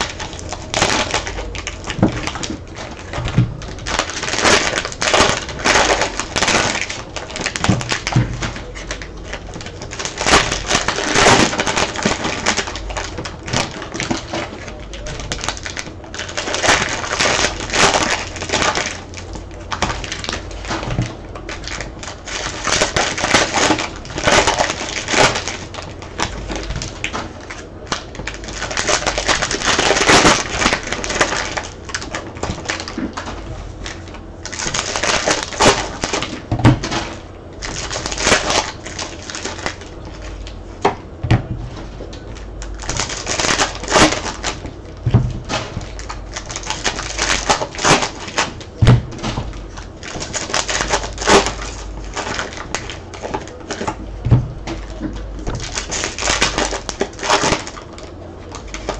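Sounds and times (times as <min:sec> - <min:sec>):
wrappers crinkling and tearing: 0:00.0 - 0:58.9.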